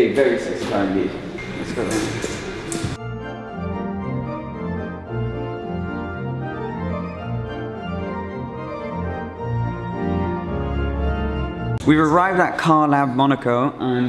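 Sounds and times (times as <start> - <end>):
organ-like keyboard chords: 0.6 - 12.3.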